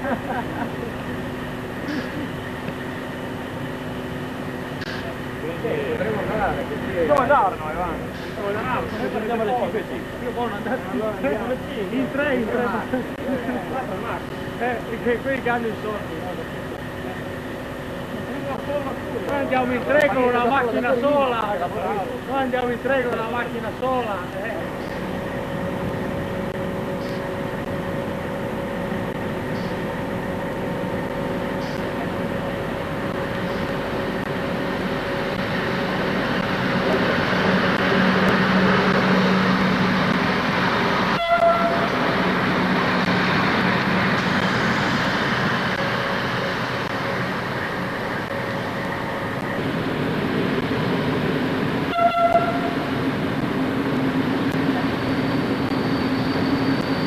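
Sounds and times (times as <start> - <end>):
diesel locomotive engine: 0.0 - 57.0
rail noise: 0.0 - 57.0.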